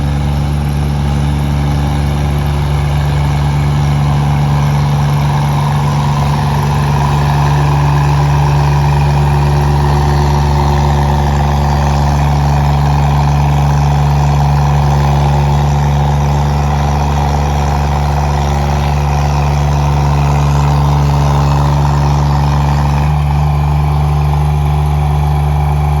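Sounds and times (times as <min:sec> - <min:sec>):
road roller engine running: 0:00.0 - 0:26.0.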